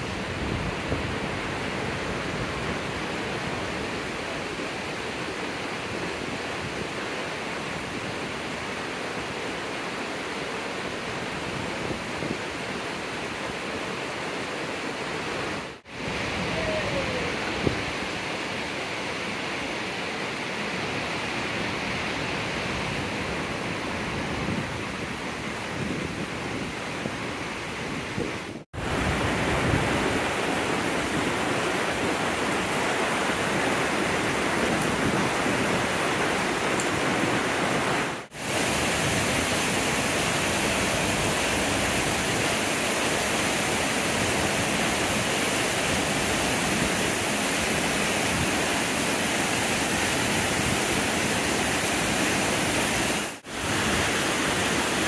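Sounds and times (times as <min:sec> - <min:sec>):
waterfall and stream rushing: 0:00.0 - 0:55.0.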